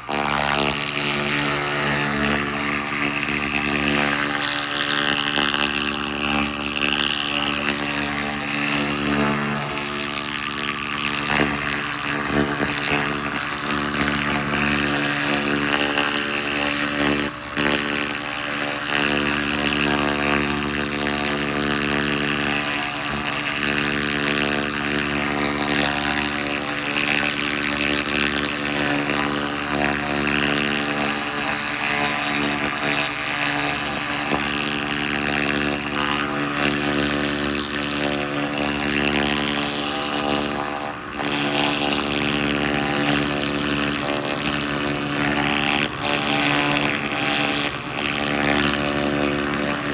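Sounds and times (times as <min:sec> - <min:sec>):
laser rust remover drone: 0:00.0 - 0:49.9.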